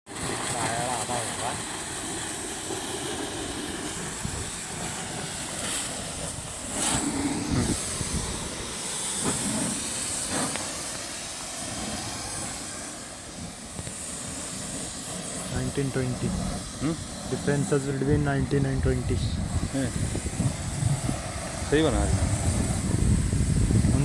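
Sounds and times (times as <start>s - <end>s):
water spraying onto tractor: 0.1s - 24.0s.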